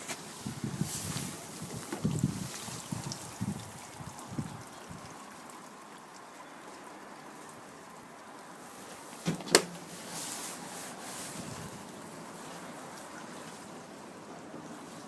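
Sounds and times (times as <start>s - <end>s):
rush of water: 0.0s - 15.0s.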